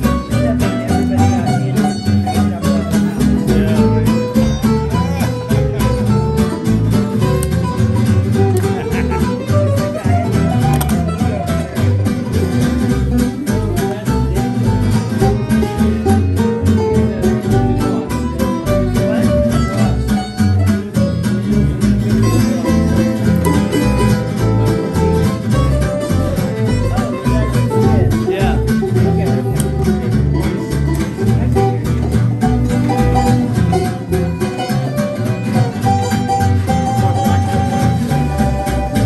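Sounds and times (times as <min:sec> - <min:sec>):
acoustic guitars strumming: 0:00.0 - 0:39.0.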